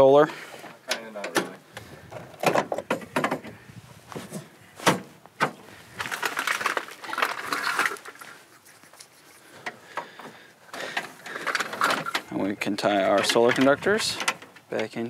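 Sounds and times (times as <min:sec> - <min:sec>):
scraping and rustling: 0:01.9 - 0:14.8.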